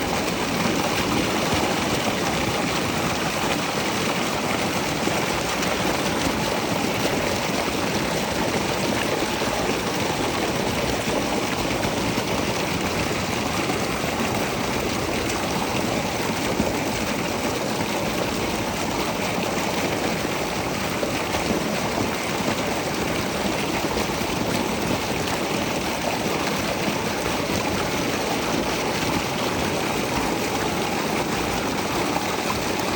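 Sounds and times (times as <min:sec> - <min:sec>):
water rushing: 0:00.0 - 0:32.9.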